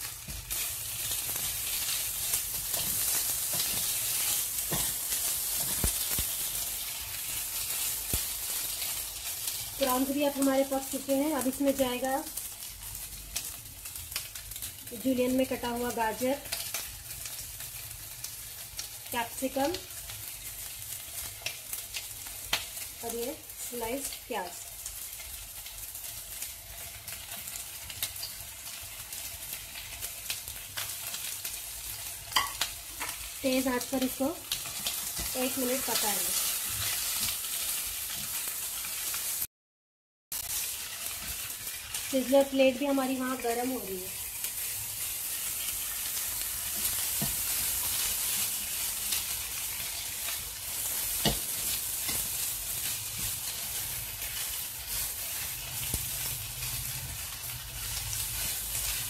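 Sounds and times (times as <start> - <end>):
prawns sizzling in oil: 0.0 - 39.5, 40.3 - 59.0.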